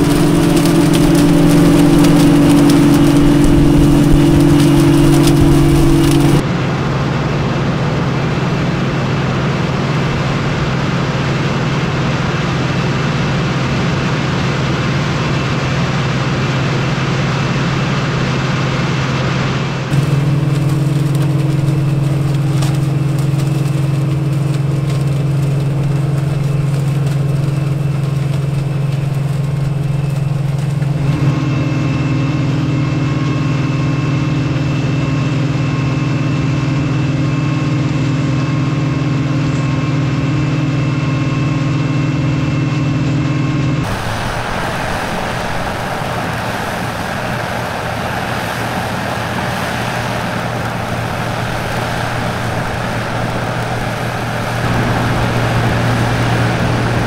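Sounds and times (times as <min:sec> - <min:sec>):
harvester engine and machinery: 0:00.0 - 0:57.0.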